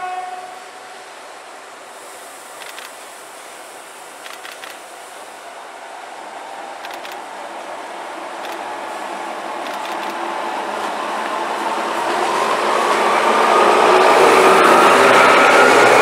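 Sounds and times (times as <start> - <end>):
diesel locomotive passing: 0.0 - 16.0.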